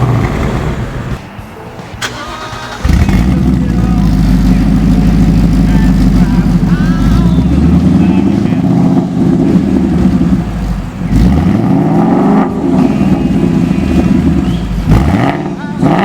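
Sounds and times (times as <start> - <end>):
car engine revving: 0.0 - 1.3, 2.0 - 16.0.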